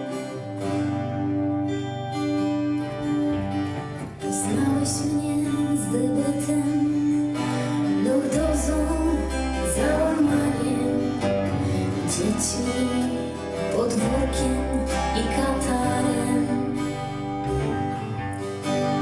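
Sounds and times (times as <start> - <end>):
guitar chords: 0.0 - 19.0
keyboard chords: 0.0 - 19.0.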